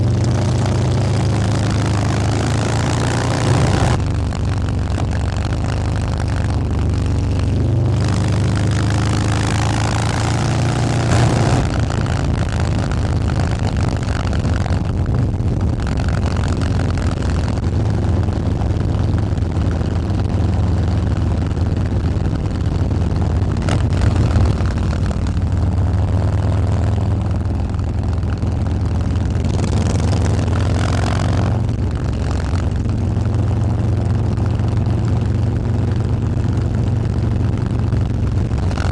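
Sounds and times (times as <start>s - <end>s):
motorcycle engine deep exhaust note: 0.0s - 38.9s.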